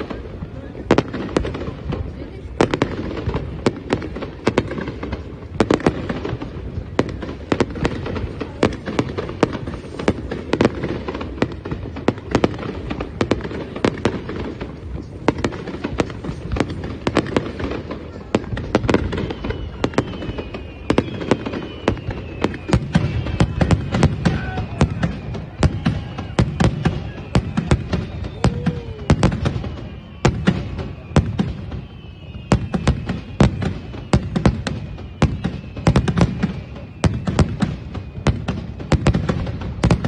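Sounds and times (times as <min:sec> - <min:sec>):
firework bangs and crackles: 0:00.0 - 0:40.0.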